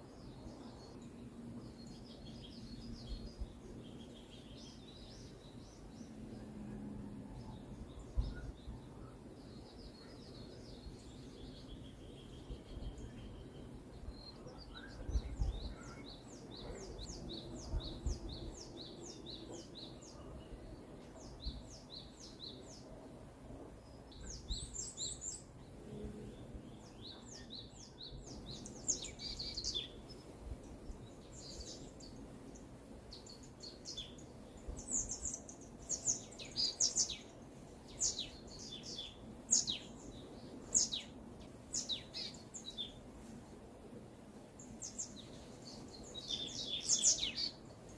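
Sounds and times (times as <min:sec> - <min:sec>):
faint background hiss: 0:00.0 - 0:47.9
songbirds chirping: 0:00.0 - 0:47.9.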